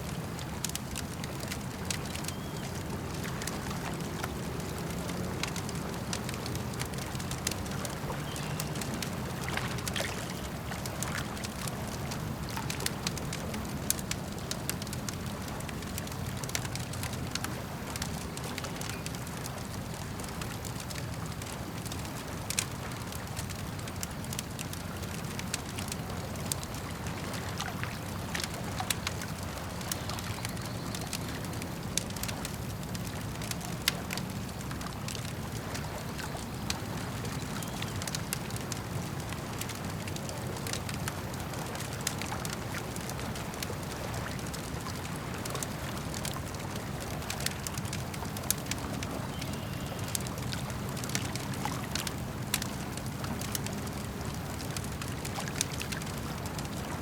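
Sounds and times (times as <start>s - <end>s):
campfire crackling and popping: 0.0s - 57.0s
lake water lapping: 0.0s - 57.0s.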